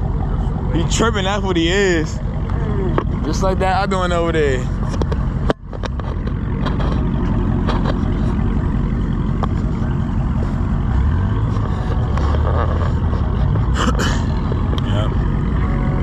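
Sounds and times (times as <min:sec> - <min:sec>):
car engine rumbling: 0:00.0 - 0:16.0
deep even hum: 0:00.0 - 0:16.0.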